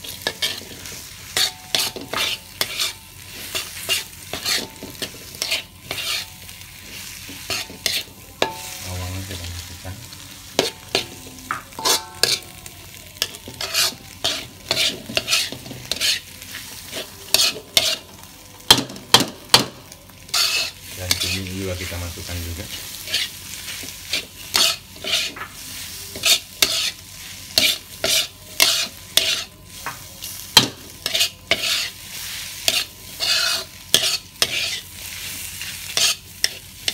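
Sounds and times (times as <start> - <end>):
metal spatula scraping wok: 0.0 - 18.8, 20.3 - 36.9
food sizzling: 0.0 - 36.9.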